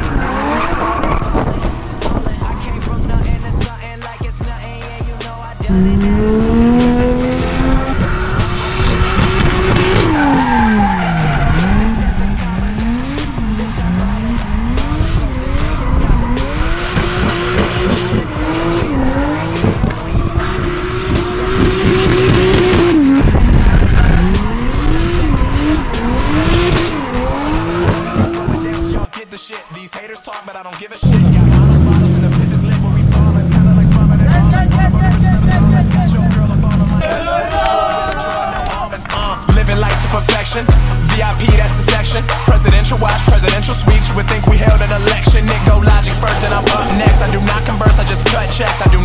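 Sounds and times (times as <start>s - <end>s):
tyres screeching: 0.0s - 4.1s, 5.4s - 29.1s, 31.0s - 49.0s
car engine revving: 0.0s - 29.1s, 31.0s - 37.1s, 38.8s - 49.0s.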